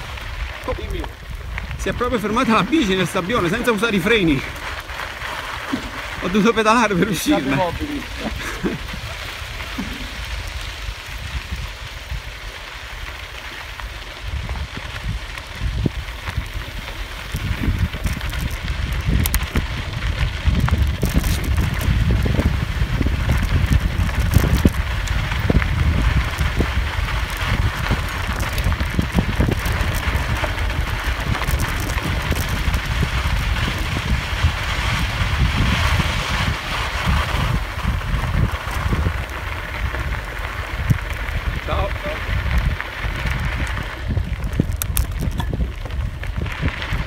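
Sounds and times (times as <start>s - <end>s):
tyres crunching on gravel: 0.0s - 47.0s
wind buffeting microphone: 0.0s - 47.0s.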